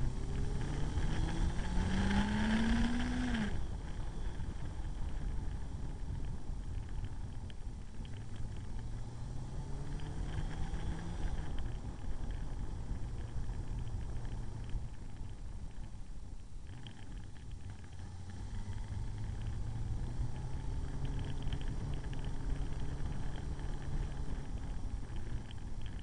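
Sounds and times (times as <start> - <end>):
motorcycle engine cruising: 0.0 - 15.8, 16.7 - 26.0
wind rush on microphone: 0.0 - 26.0.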